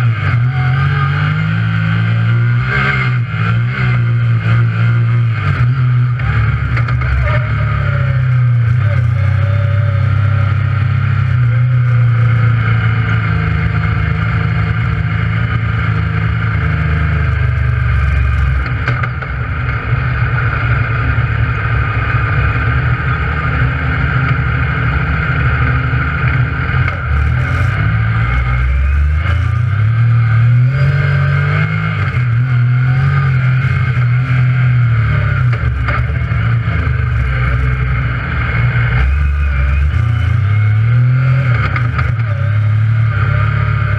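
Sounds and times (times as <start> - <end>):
engine running while driving: 0.0 - 43.9.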